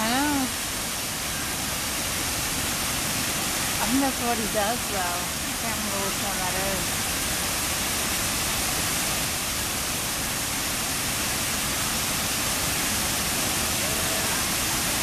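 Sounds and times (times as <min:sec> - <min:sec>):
river water rushing over waterfall: 0:00.0 - 0:15.0.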